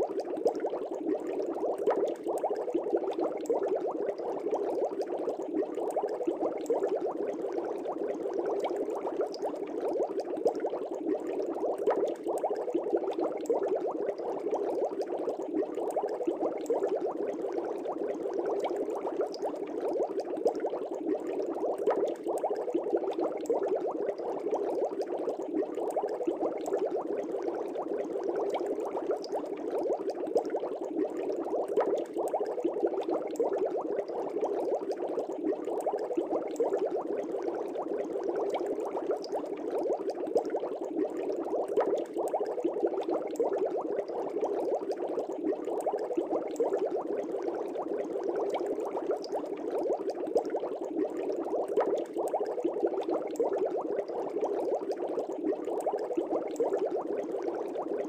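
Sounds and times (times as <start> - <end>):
aquarium air bubbling: 0.0 - 58.0.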